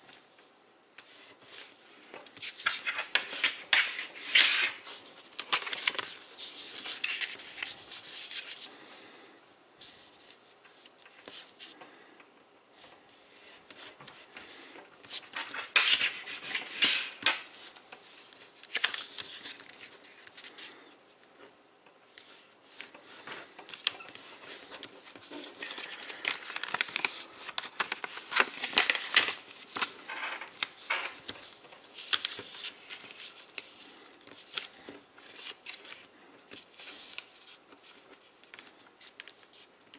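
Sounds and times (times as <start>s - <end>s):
paper rustling on tabletop: 0.1s - 9.0s, 12.8s - 20.8s, 22.1s - 39.9s
paper being folded and creased: 0.2s - 8.8s, 12.8s - 20.7s, 22.1s - 39.9s.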